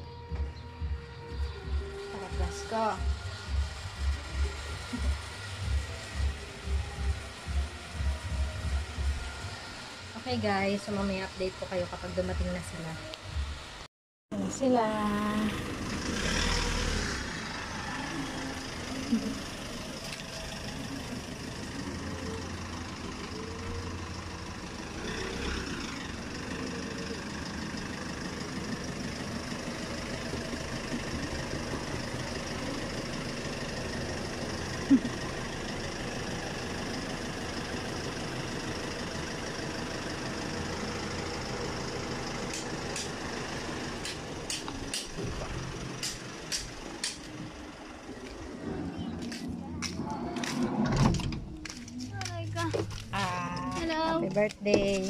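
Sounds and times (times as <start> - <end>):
van engine idling: 0.0 - 55.0.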